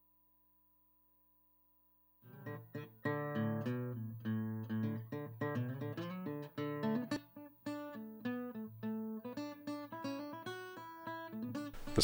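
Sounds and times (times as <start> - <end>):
acoustic guitar plucking: 2.3 - 12.0.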